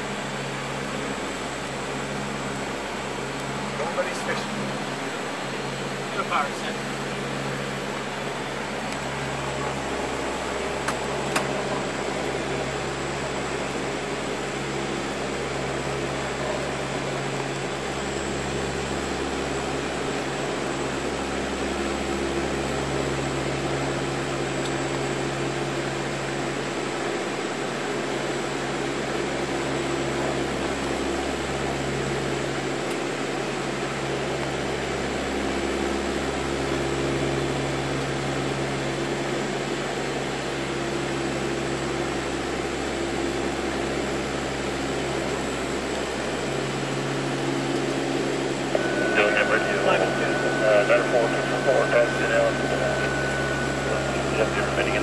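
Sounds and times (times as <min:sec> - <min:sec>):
turboprop cockpit drone: 0:00.0 - 0:55.0.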